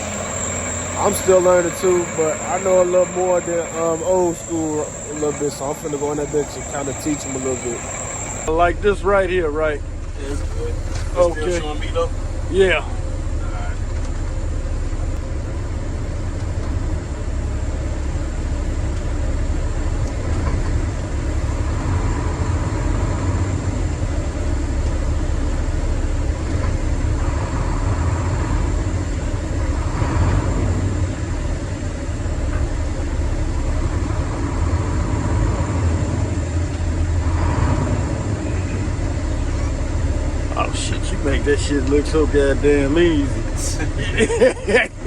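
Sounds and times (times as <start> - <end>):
truck diesel engine revving: 0.0 - 18.8, 19.6 - 45.0.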